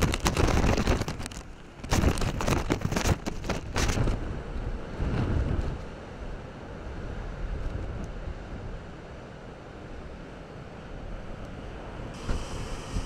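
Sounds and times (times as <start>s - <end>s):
heavy surf against cliff: 0.0s - 13.0s
wind buffeting microphone: 0.0s - 13.0s.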